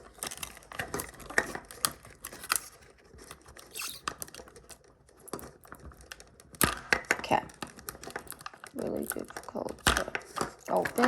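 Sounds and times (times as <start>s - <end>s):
plastic packaging clicks and crinkling: 0.0s - 11.0s.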